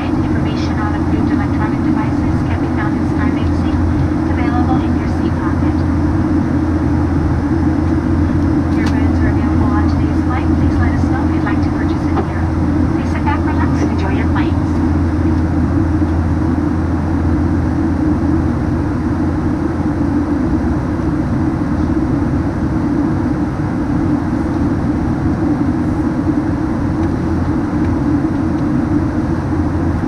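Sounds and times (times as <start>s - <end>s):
airplane cabin engine drone: 0.0s - 30.0s.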